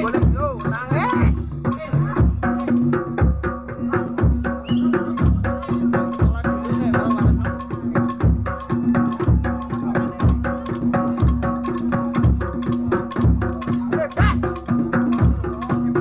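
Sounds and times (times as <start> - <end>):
deep bass drum beat: 0.0 - 16.0.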